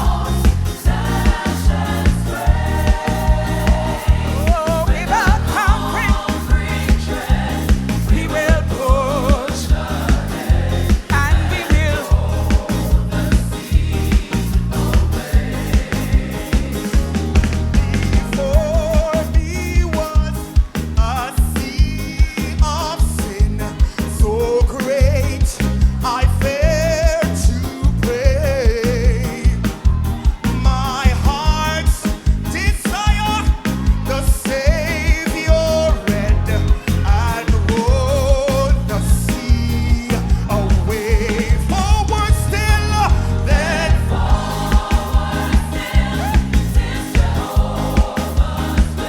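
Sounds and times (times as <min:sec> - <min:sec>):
voices singing: 0:00.0 - 0:20.6, 0:21.2 - 0:49.0
drum beat: 0:00.0 - 0:49.0
gospel band playing: 0:00.0 - 0:49.0.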